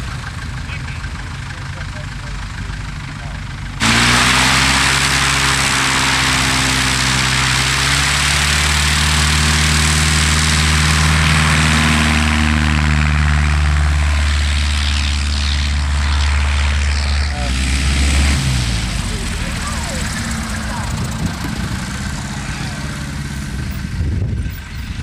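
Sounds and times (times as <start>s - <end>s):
light aircraft engine drone: 0.0s - 25.0s.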